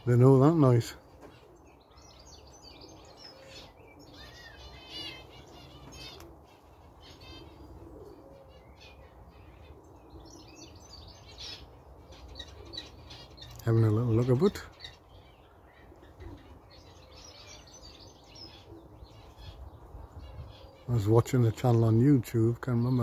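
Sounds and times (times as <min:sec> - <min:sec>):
pigeons cooing: 0:00.0 - 0:23.0
small birds chirping: 0:00.0 - 0:23.0.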